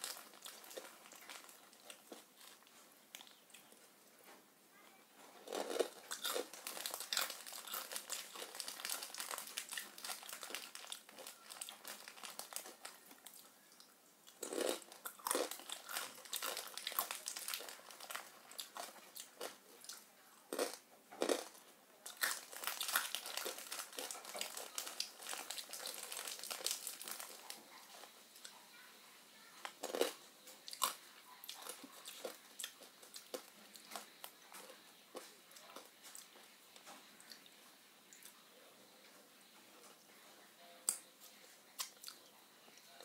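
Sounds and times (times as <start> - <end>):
crunching and chewing snack: 0.0 - 3.8, 5.4 - 28.6, 29.6 - 38.4.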